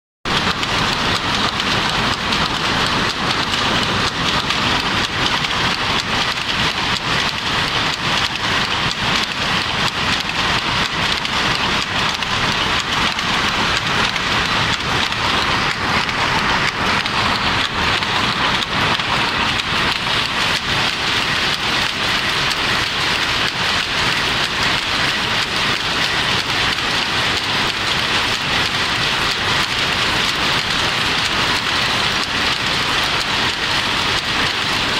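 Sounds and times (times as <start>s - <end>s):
power loom clattering: 0.3s - 34.9s.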